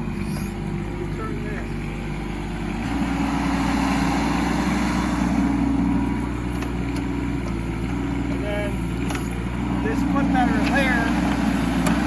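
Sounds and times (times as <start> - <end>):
excavator diesel engine under load: 0.0 - 12.0.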